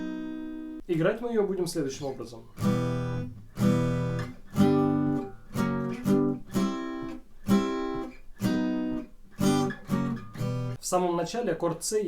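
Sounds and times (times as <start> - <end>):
guitar strumming: 0.0 - 10.8.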